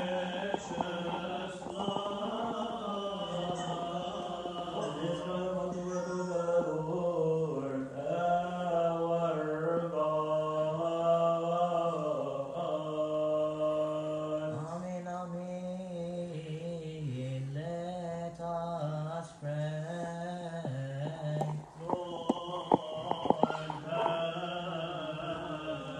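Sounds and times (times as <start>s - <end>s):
men chanting a hymn: 0.0s - 25.9s.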